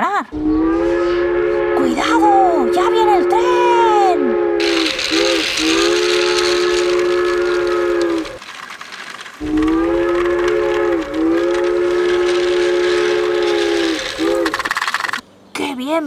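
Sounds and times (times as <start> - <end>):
steam train whistle blasts: 0.4 - 8.4, 9.5 - 14.6.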